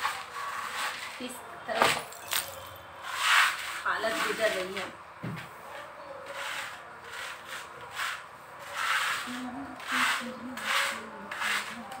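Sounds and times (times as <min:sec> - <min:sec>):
rough rubbing on hard floor: 0:00.0 - 0:05.0, 0:05.6 - 0:12.0.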